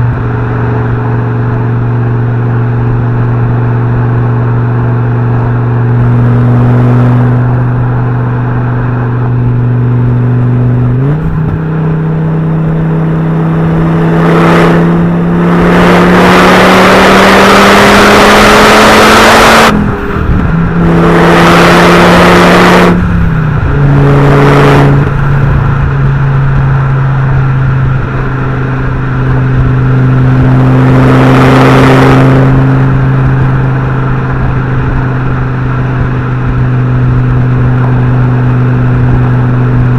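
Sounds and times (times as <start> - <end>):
car engine accelerating through gears: 0.0 - 39.9
turbo rushing noise: 0.0 - 39.9.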